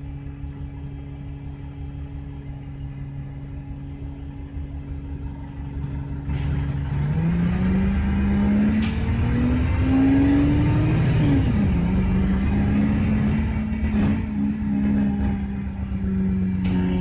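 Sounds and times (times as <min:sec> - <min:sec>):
bus engine idling and revving: 0:00.0 - 0:17.0.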